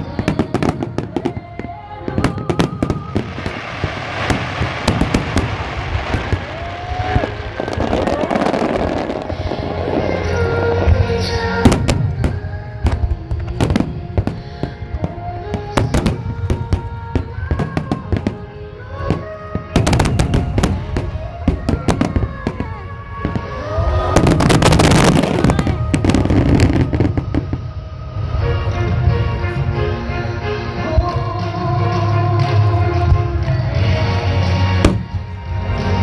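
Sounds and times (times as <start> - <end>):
fireworks bursting and crackling: 0.0 - 29.4, 33.4 - 36.0
music playing: 0.0 - 36.0.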